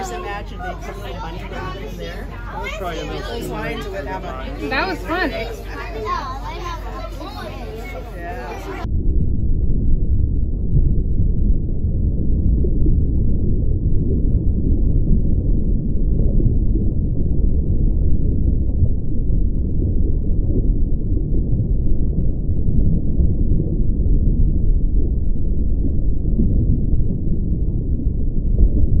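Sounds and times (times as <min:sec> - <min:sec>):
muffled underwater rumble: 0:00.0 - 0:29.0.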